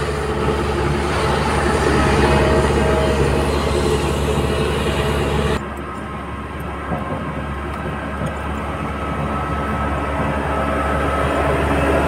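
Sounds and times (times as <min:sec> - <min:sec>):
road roller diesel engine: 0:00.0 - 0:12.0.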